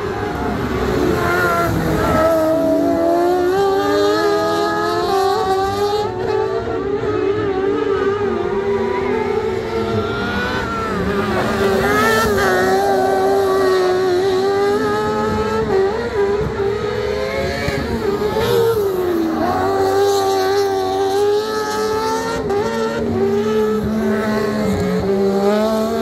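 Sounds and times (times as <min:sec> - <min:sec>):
race car engines at high revs: 0:00.0 - 0:26.0.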